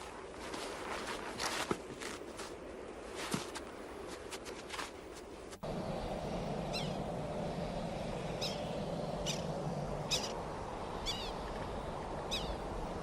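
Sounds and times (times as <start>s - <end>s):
low rushing background: 2.2s - 13.0s.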